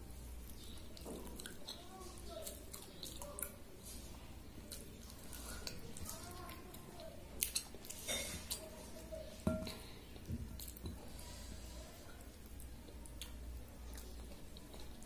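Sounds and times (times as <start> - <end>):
chewing: 0.4 - 15.0.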